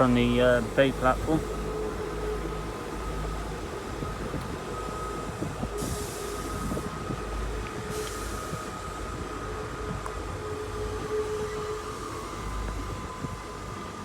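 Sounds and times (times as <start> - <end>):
diesel train engine rumble: 0.0 - 14.0.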